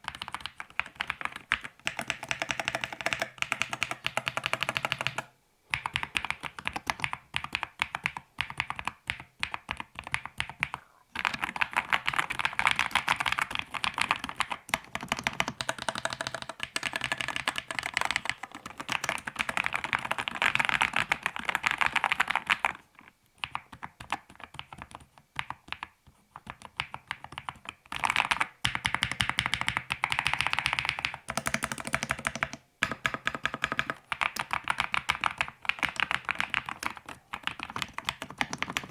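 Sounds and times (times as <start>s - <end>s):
mechanical keyboard typing: 0.0s - 22.8s, 23.4s - 38.9s.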